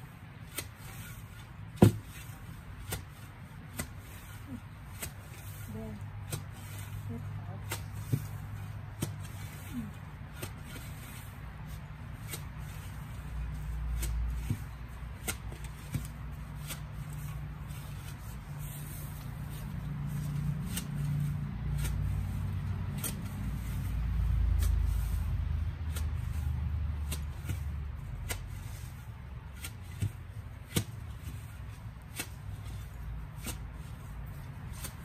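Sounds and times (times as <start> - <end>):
rustling of grass and soil: 0.0 - 35.0.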